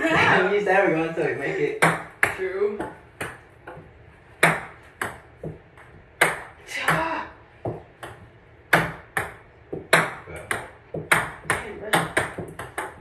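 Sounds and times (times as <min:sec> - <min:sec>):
ping pong balls bouncing: 0:01.8 - 0:13.0.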